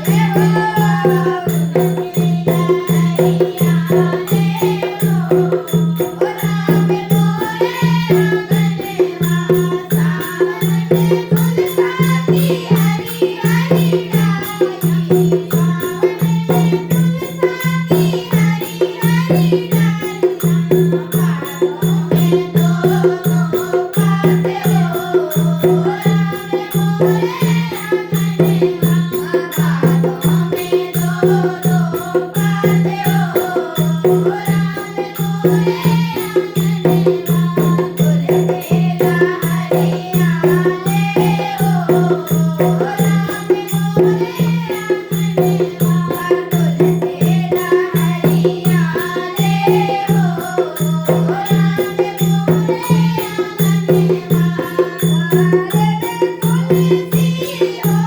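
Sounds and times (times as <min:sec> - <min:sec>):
rattling hand percussion: 0:00.0 - 0:58.0.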